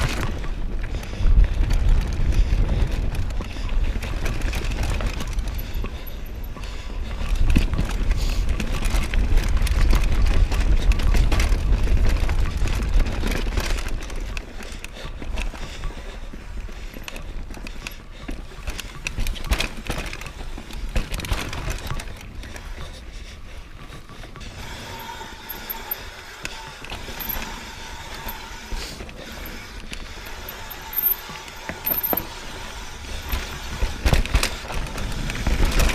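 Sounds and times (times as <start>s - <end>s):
bike clicks and rattles: 0.0s - 35.9s
wind rumble on microphone: 0.0s - 35.9s.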